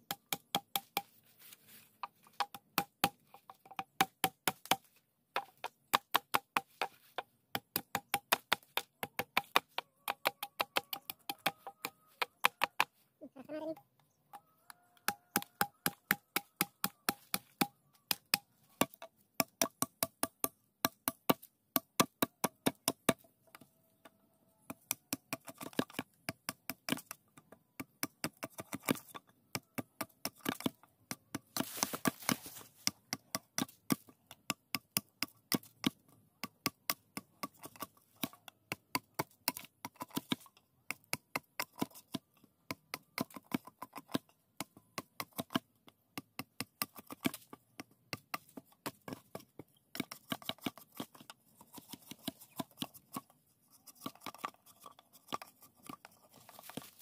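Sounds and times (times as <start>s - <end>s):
machete chopping bamboo: 0.0s - 1.2s, 2.2s - 12.9s, 15.1s - 23.3s, 24.7s - 27.2s, 27.8s - 53.3s.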